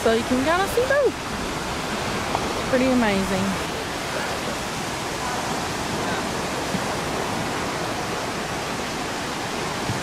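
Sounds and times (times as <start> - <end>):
surf washing onto beach: 0.0 - 10.0.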